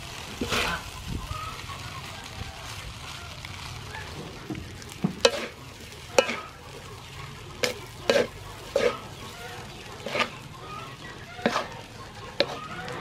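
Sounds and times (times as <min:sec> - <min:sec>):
spatula scraping a wok: 0:00.0 - 0:01.9, 0:02.6 - 0:13.0
rice sizzling in a wok: 0:00.0 - 0:13.0.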